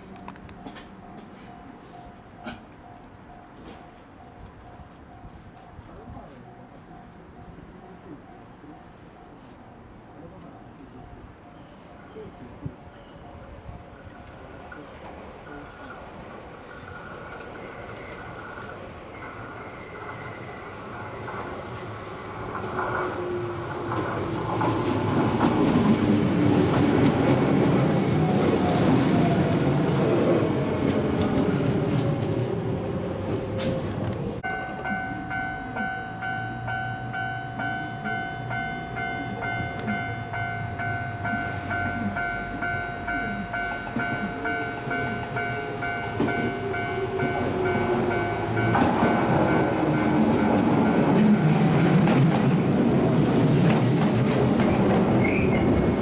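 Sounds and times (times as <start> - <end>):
rumbling wheel and rail noise: 0.0 - 56.0.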